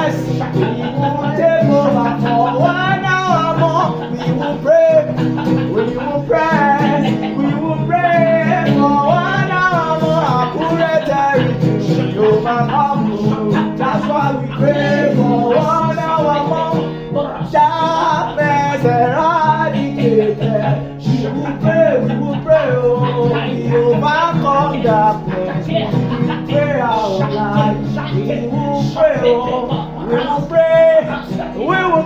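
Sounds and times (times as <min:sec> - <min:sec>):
guitar chords: 0:00.0 - 0:32.0
person singing: 0:00.0 - 0:32.0.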